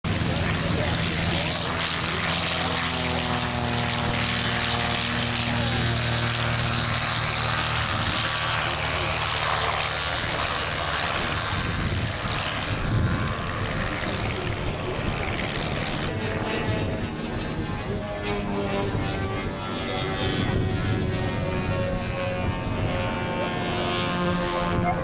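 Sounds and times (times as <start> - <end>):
propeller aircraft engines: 0.0 - 25.0.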